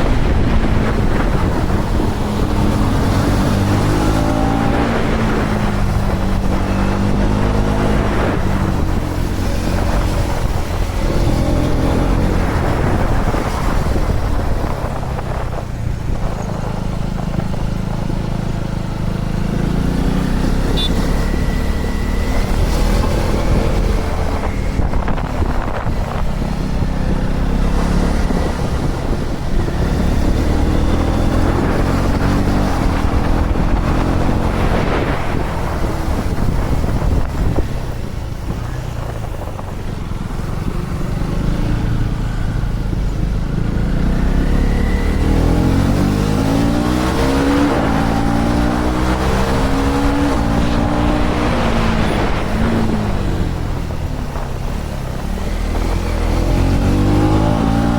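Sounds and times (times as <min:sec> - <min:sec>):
motorcycle engine revving: 0:00.0 - 0:57.9
wind rush on microphone: 0:00.0 - 0:57.9.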